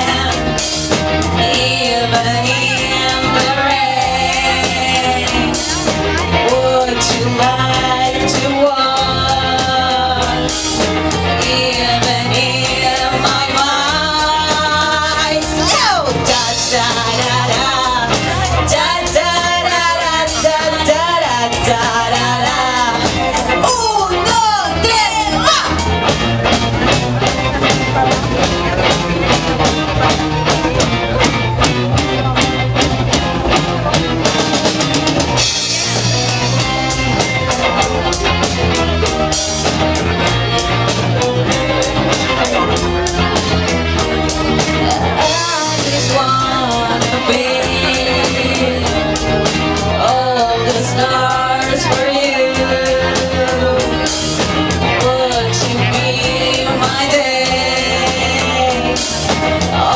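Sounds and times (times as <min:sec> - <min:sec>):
drum kit beat: 0:00.0 - 0:59.9
electric guitar: 0:00.0 - 0:59.9
person singing: 0:00.0 - 0:59.9.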